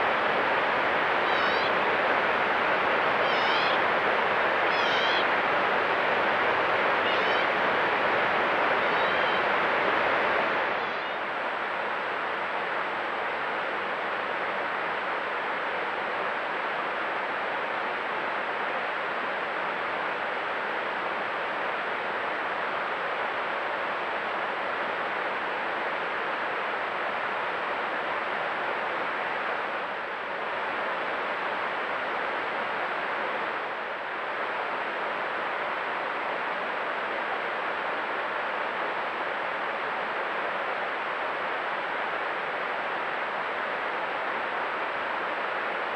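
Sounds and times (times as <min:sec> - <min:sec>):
background hiss: 0:00.0 - 0:45.9
faint high whine: 0:00.0 - 0:45.9.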